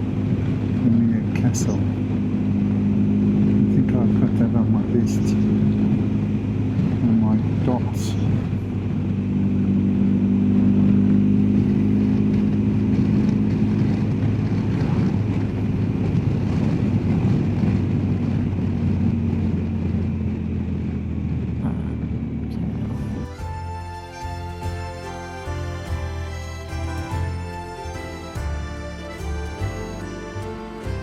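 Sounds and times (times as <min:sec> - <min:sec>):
motorcycle engine cruising: 0:00.0 - 0:31.0
wind and road rush: 0:00.0 - 0:31.0.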